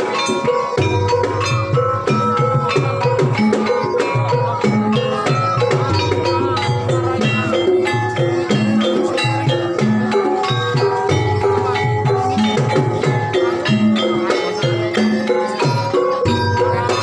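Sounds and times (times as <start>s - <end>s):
drum strokes: 0.0s - 17.0s
gamelan music: 0.0s - 17.0s.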